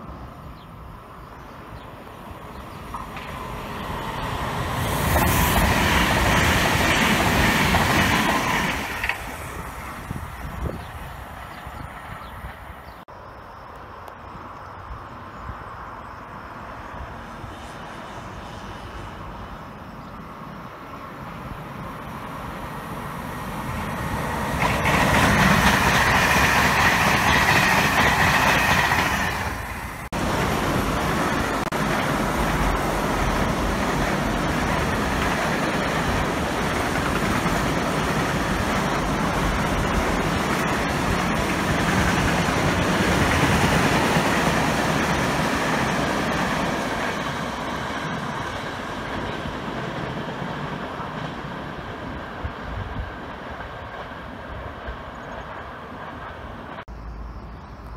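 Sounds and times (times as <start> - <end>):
freight train rumbling past: 0.0 - 13.1, 15.1 - 57.7.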